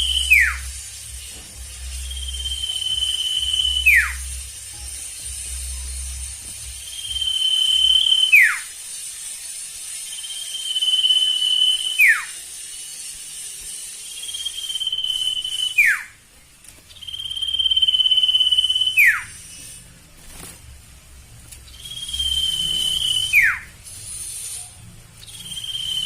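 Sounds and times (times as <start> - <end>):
bird whistling call: 0.0 - 4.7, 5.4 - 8.8, 9.9 - 16.2, 16.9 - 19.8, 21.7 - 26.0.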